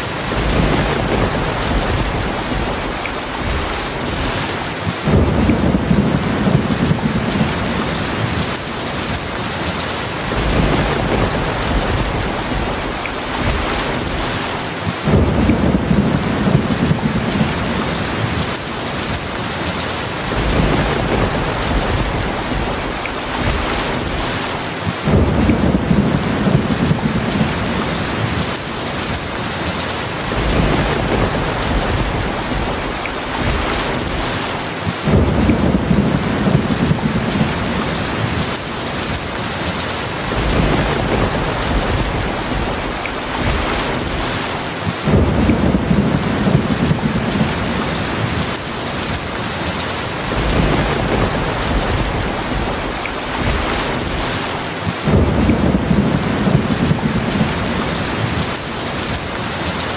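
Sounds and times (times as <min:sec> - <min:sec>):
low rolling thunder: 0:00.0 - 0:09.2, 0:10.2 - 0:19.2, 0:20.2 - 0:29.2, 0:30.2 - 0:39.5, 0:40.1 - 0:59.2
dense rain hiss: 0:00.0 - 0:59.9.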